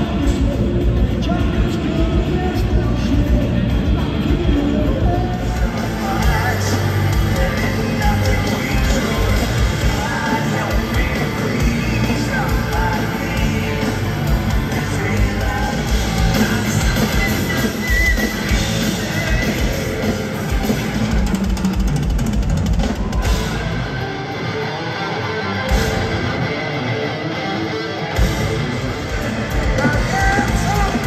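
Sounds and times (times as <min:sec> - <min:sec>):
yelled vocals: 0:00.0 - 0:21.9, 0:23.0 - 0:31.0
live rock band playing: 0:00.0 - 0:31.0.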